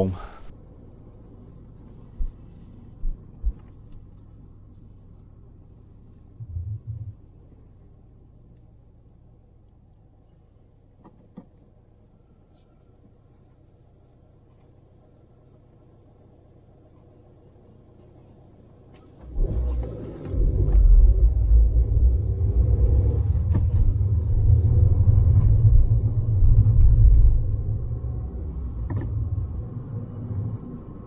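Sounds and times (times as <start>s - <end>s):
car engine low rumble: 0.0s - 31.0s
car engine starting: 0.0s - 31.0s.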